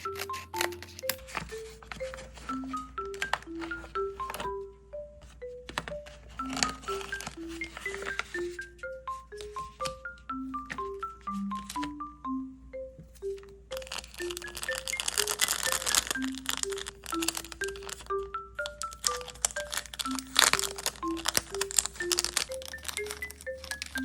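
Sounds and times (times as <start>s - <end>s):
paper crinkling and crackling: 0.0s - 4.6s, 5.2s - 12.0s, 13.7s - 24.0s
mallet percussion melody: 0.0s - 24.0s.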